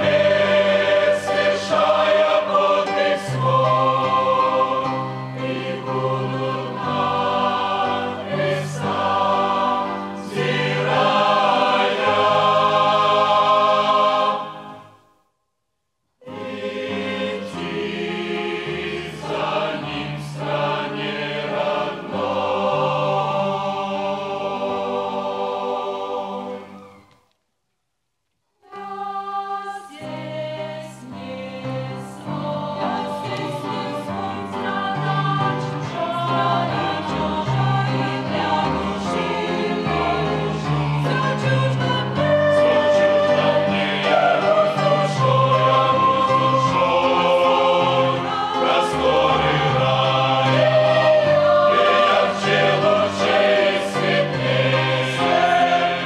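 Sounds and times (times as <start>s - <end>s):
choir singing a hymn: 0.0s - 15.0s, 16.2s - 27.0s, 28.7s - 56.0s
piano accompaniment: 0.0s - 15.0s, 16.2s - 27.1s, 30.0s - 56.0s.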